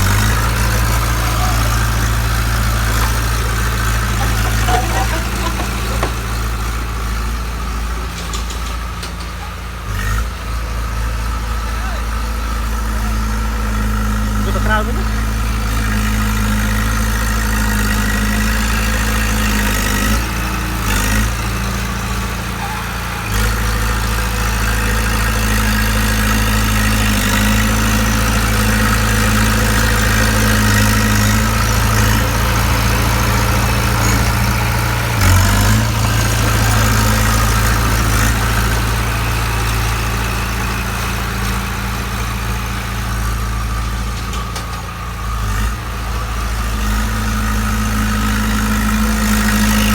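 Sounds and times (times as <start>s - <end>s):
bulldozer diesel engine idling: 0.0s - 49.9s.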